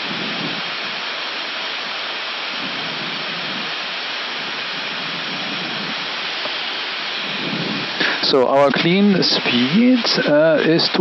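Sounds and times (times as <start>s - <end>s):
air rushing past cockpit: 1.8s - 11.0s.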